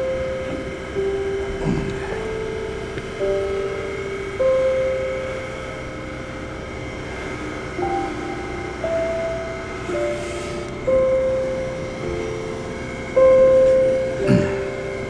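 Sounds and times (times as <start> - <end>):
slow guitar-like melody: 0.0 - 15.0.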